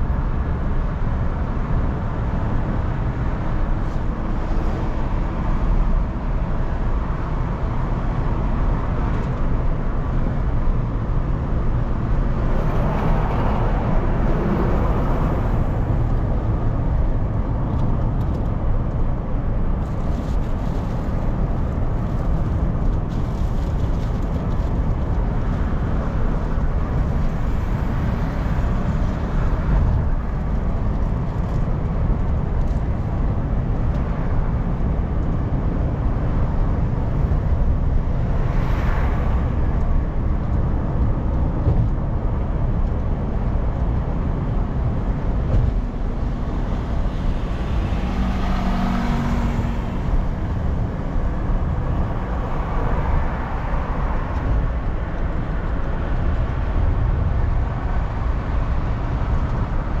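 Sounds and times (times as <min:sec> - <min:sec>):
in-car road and engine rumble: 0:00.0 - 1:00.0.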